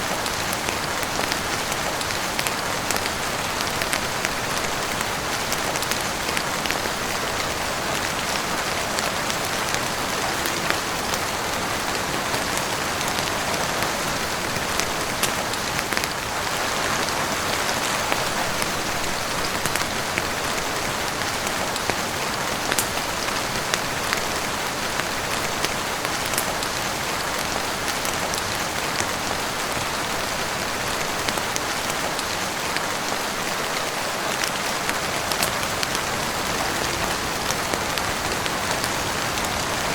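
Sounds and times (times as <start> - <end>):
heavy rain on roof and windows: 0.0 - 39.9.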